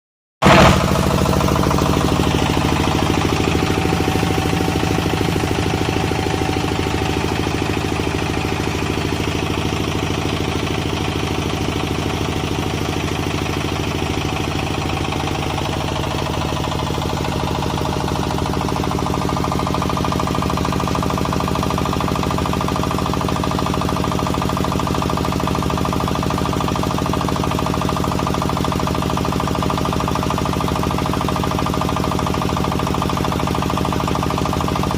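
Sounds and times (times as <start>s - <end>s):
flour mill humming: 0.5s - 34.9s.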